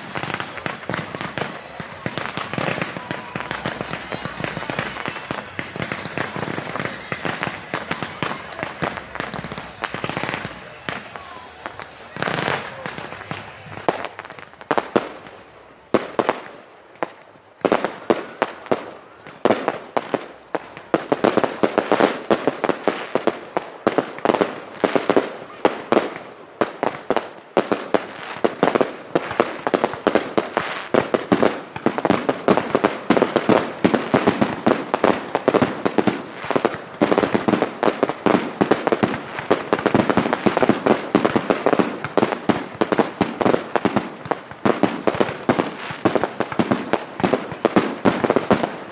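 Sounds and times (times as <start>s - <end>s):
fireworks bangs: 0.0s - 48.9s.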